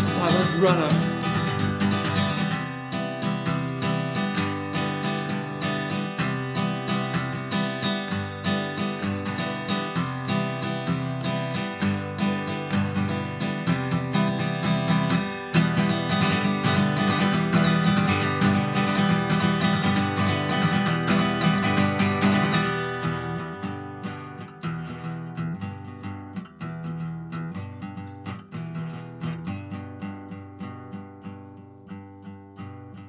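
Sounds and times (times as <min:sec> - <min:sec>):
acoustic guitar playing: 0:00.0 - 0:33.0.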